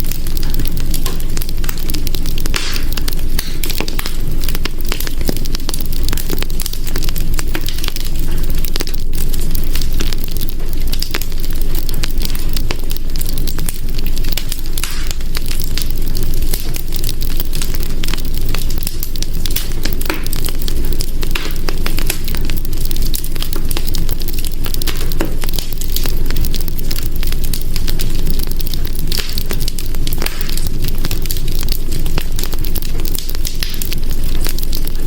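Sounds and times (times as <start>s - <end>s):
hearth fire crackling: 0.0s - 35.0s.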